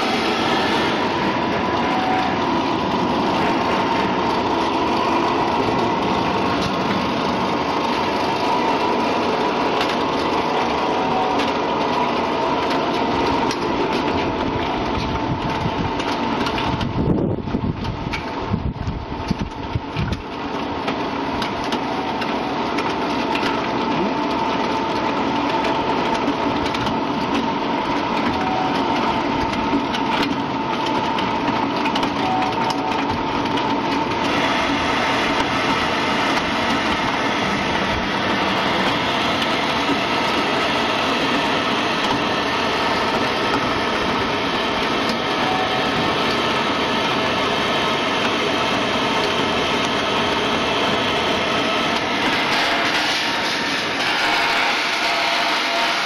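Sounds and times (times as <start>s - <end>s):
frying machine whirring: 0.0s - 56.0s.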